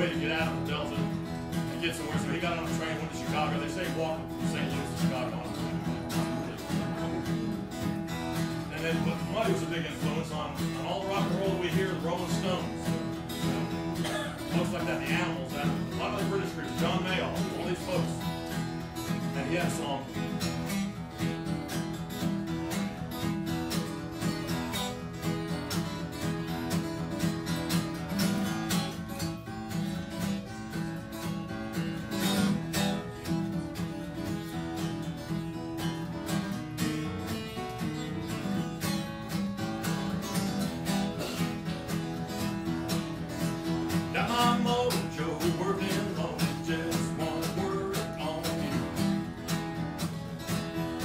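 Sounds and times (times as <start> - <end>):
guitar strummed and picked: 0.0 - 51.0.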